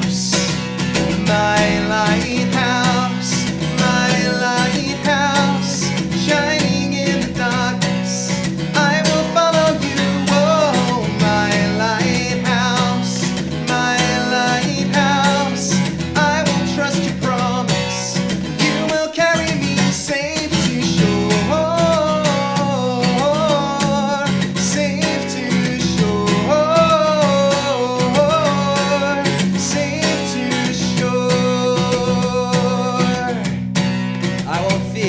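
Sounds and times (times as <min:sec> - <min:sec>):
person singing: 0:00.0 - 0:33.6, 0:34.4 - 0:35.0
acoustic guitar strumming: 0:00.0 - 0:35.0.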